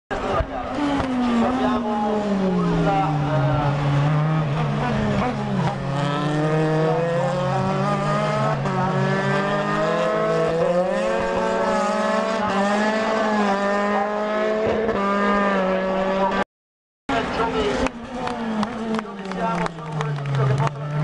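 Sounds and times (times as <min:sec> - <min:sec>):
racing car engines accelerating: 0:00.1 - 0:16.4, 0:17.1 - 0:21.0.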